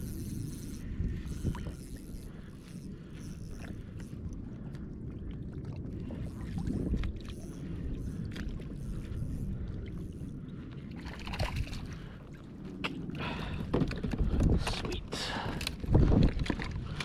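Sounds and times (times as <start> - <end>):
water sloshing against hull: 0.0 - 17.0.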